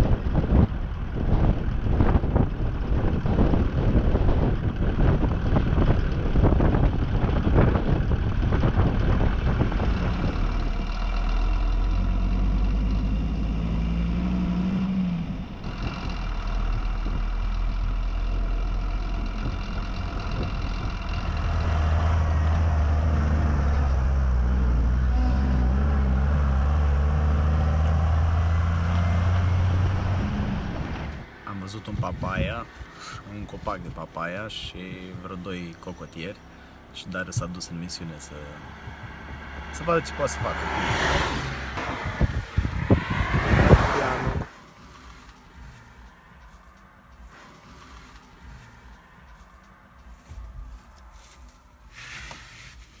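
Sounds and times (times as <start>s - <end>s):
off-road vehicle engine running: 0.0s - 53.0s.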